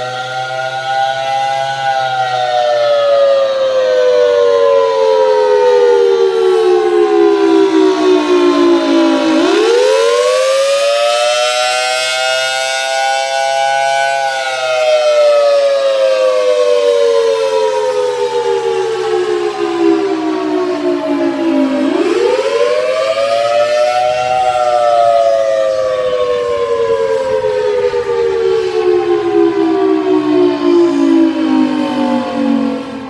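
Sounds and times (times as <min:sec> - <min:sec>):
warning siren wailing: 0:00.0 - 0:33.0.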